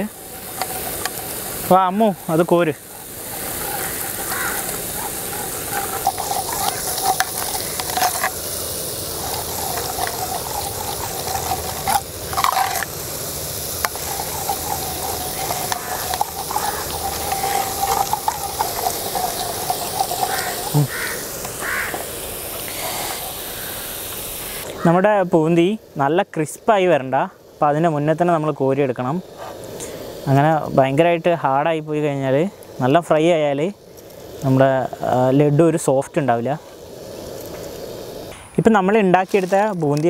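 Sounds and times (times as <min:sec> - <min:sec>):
hot oil sizzling: 0:00.0 - 0:40.0.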